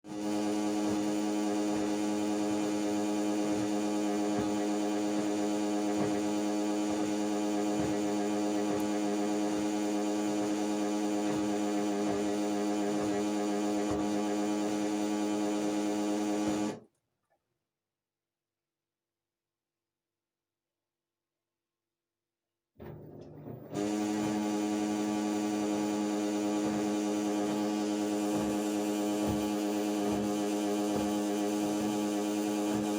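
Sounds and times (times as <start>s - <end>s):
washing machine humming: 0.0s - 16.8s, 23.2s - 32.9s.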